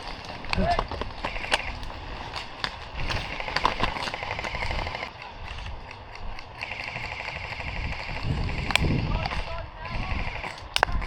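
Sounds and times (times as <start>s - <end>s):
airsoft gun full-auto bursts: 0.0s - 11.0s.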